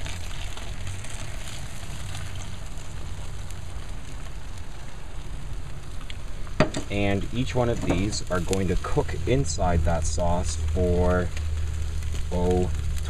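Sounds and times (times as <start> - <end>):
low steady hum: 0.0 - 13.0
sauce sizzling: 0.0 - 13.0.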